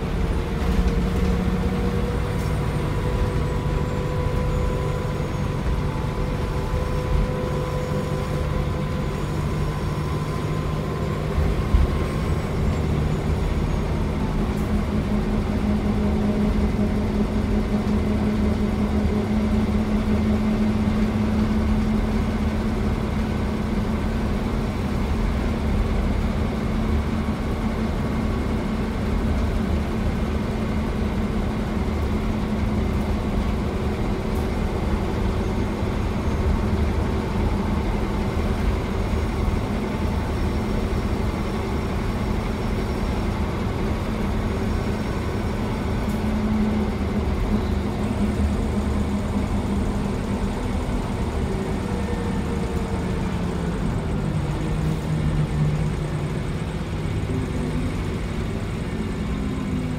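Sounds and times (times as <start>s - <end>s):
bus engine humming: 0.0s - 59.9s
road and tyre noise: 0.0s - 59.9s.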